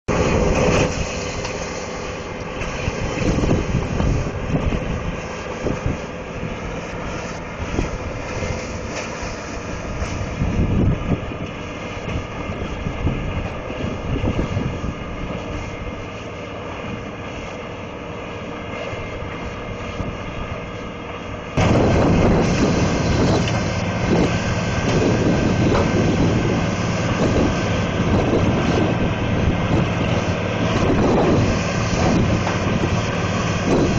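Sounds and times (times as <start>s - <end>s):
diesel engine under load: 0.0s - 33.9s.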